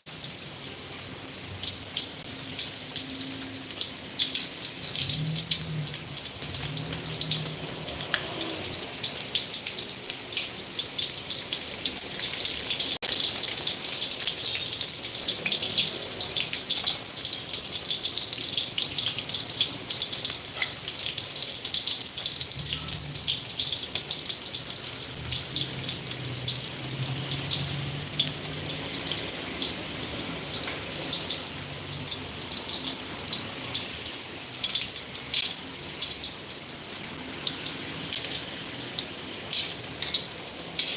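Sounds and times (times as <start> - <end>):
meatballs sizzling in hot oil: 0.0 - 40.9.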